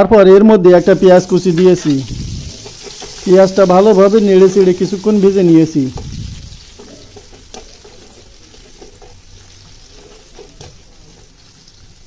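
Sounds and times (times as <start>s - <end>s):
onions sizzling in hot oil: 0.8s - 12.0s
spatula stirring: 0.8s - 12.0s.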